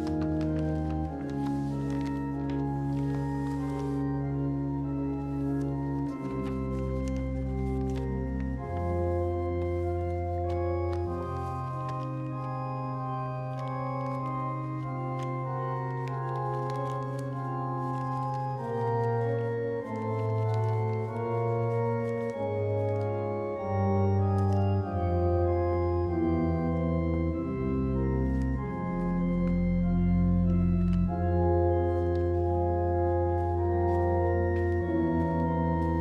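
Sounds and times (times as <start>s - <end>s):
slow organ-like chords: 0.0s - 36.0s.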